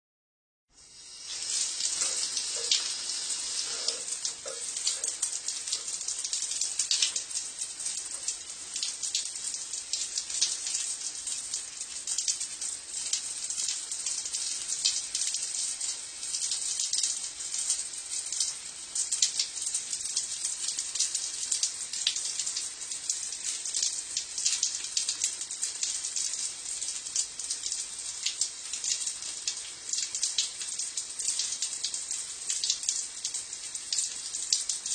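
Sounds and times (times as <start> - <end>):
shower water splashing on stone: 0.8 - 34.9.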